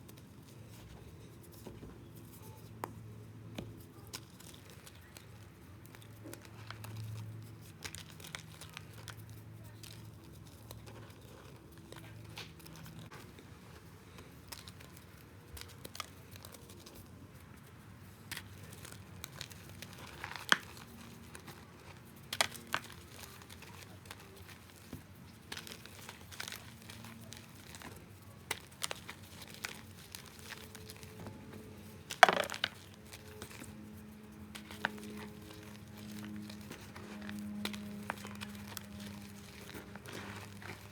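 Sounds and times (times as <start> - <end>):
chalk balls crunching: 0.0 - 40.9.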